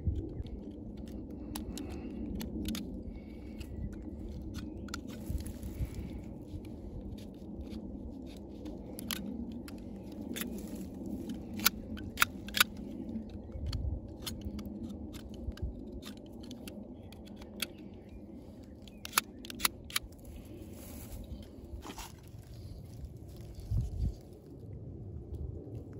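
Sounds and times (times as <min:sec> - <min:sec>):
low background rumble: 0:00.0 - 0:25.9.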